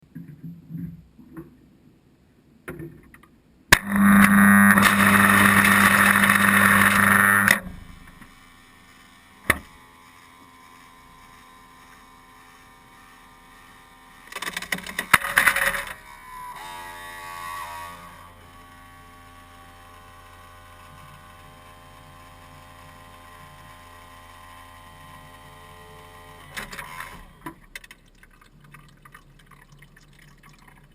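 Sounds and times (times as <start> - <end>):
ice maker motor humming: 3.8 - 29.0.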